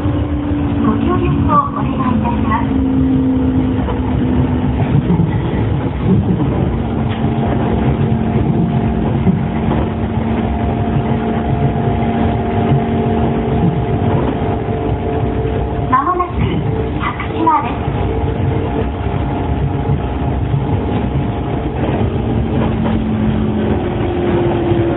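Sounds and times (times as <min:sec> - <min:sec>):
train ride rumble: 0:00.0 - 0:24.9.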